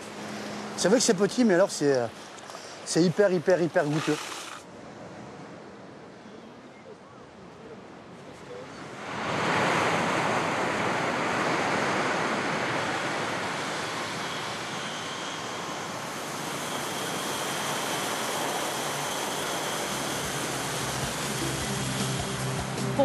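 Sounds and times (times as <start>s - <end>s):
waves breaking on beach: 0.1s - 4.7s, 8.8s - 23.0s.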